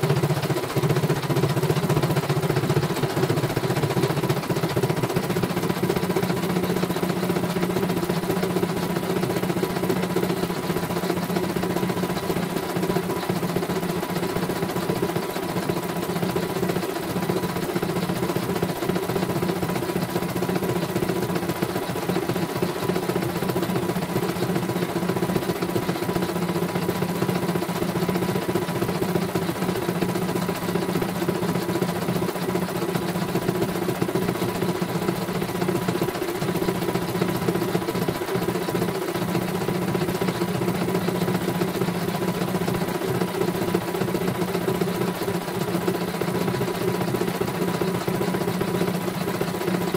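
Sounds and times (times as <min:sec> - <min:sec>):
embroidery machine stitching: 0:00.0 - 0:49.9.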